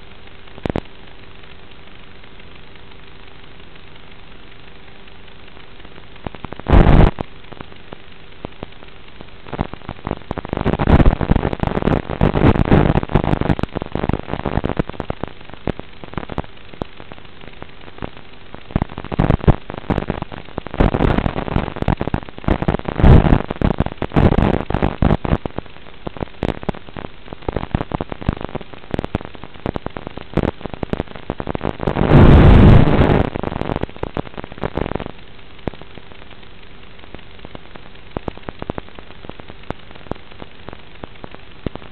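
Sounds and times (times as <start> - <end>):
faint steady hum: 0.0 - 41.9
steady hiss: 0.0 - 41.9.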